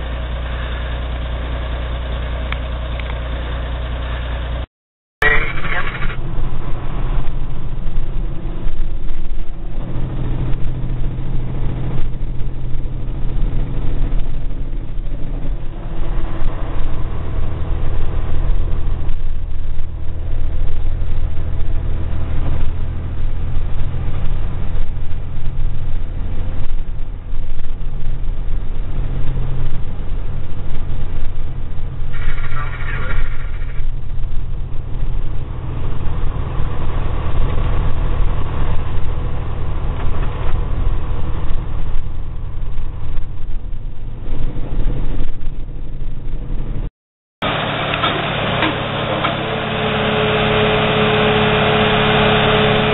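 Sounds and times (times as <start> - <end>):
diesel truck engine under load: 0.0 - 52.9.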